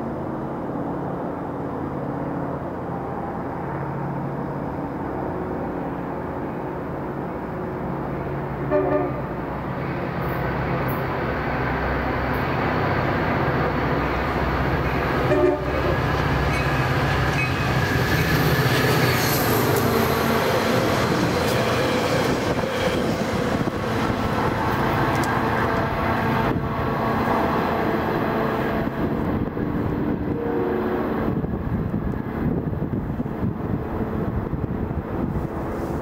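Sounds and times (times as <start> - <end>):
diesel train running: 0.0 - 36.0
rail and wheel noise: 0.0 - 36.0.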